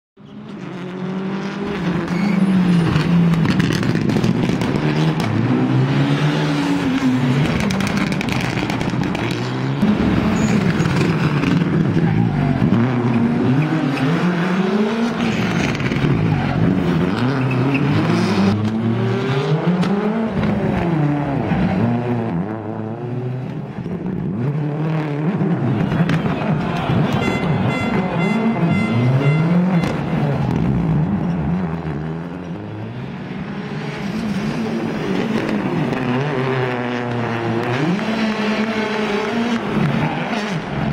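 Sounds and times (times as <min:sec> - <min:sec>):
rally car engines revving: 0:00.2 - 0:40.9.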